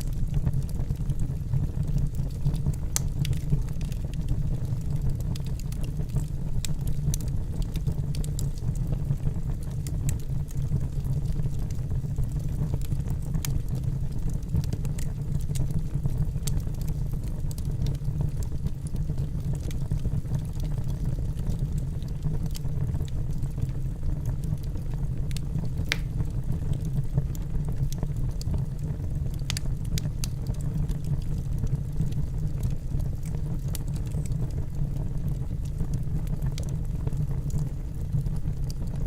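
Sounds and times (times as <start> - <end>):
fire flames rumbling: 0.0 - 39.0
logs crackling and popping: 0.0 - 39.0.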